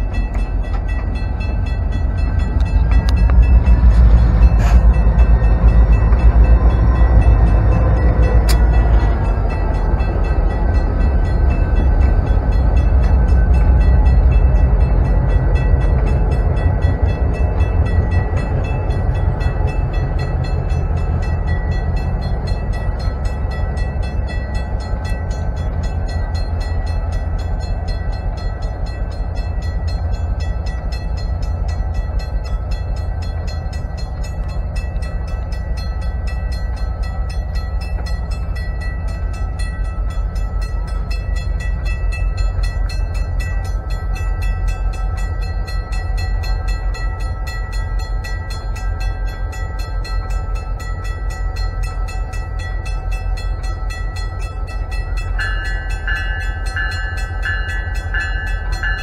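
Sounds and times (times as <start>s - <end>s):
diesel locomotive engine rumbling: 0.0s - 59.0s.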